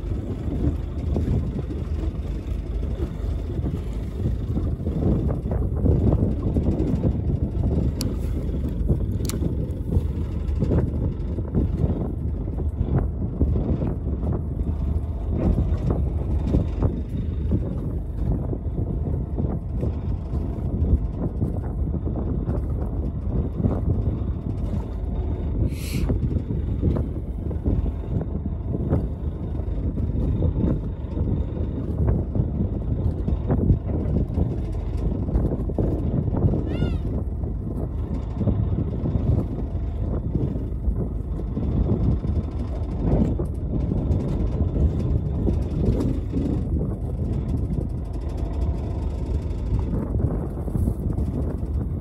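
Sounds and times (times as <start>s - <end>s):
boat engine rumble: 0.0s - 52.0s
water noise: 0.0s - 52.0s
wind buffeting microphone: 0.0s - 52.0s.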